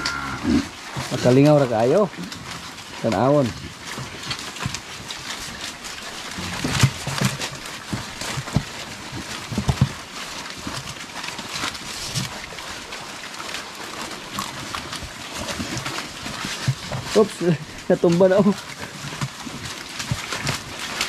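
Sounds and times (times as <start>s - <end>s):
chewing and leaf rustling: 0.0s - 21.0s
pigs grunting: 0.0s - 21.0s.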